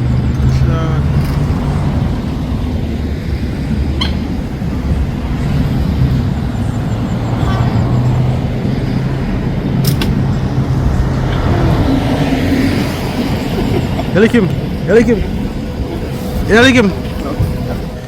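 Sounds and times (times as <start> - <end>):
road noise: 0.0 - 18.0
vehicle engine running: 0.0 - 18.0.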